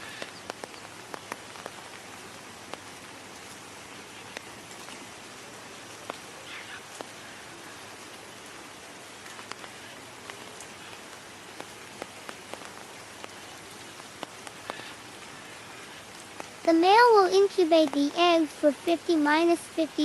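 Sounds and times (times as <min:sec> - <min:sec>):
individual raindrop hits: 0:00.0 - 0:07.3, 0:07.9 - 0:20.0
steady rain falling: 0:00.0 - 0:20.0.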